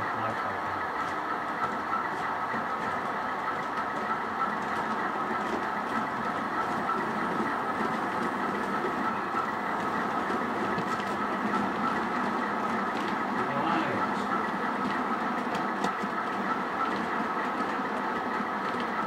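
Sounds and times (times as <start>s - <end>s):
model train running on track: 0.0s - 19.0s.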